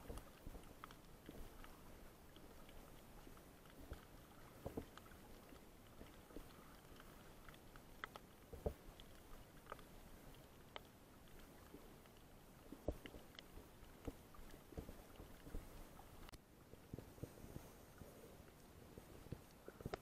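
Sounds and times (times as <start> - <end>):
muffled underwater hiss: 0.0 - 20.0
soft underwater clicks and knocks: 0.0 - 20.0.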